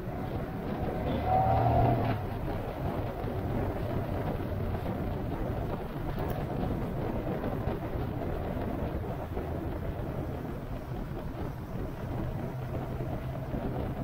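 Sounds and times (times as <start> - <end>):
vehicle engine running: 0.0 - 14.0
wind and road noise: 0.0 - 14.0.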